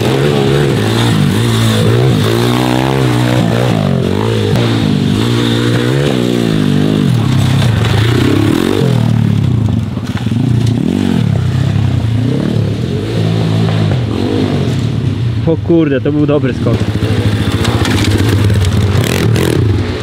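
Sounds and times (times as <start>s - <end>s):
motorbike engine revving: 0.0s - 15.4s, 16.4s - 20.0s.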